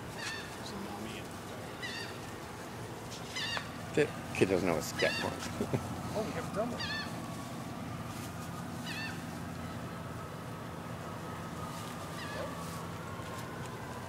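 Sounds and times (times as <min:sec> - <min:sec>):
high wavering bird calls: 0:00.0 - 0:13.0
steady low hum: 0:00.0 - 0:14.0.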